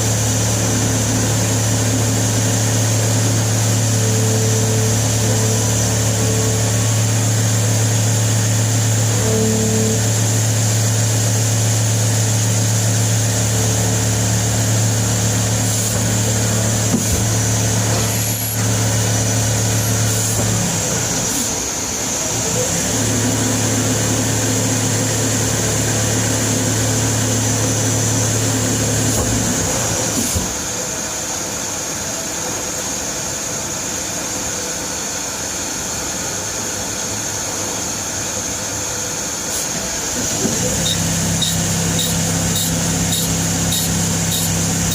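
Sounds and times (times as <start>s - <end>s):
lathe humming with high whine: 0.0s - 44.9s.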